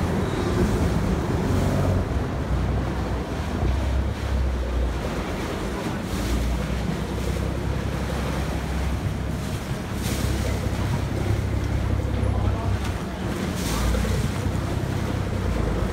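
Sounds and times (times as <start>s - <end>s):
boat engine rumbling: 0.0s - 15.9s
water churning: 0.0s - 15.9s.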